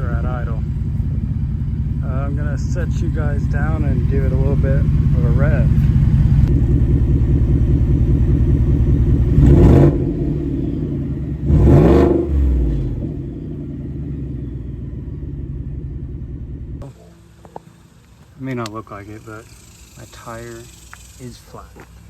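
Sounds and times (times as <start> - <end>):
truck engine idling and revving: 0.0 - 22.0.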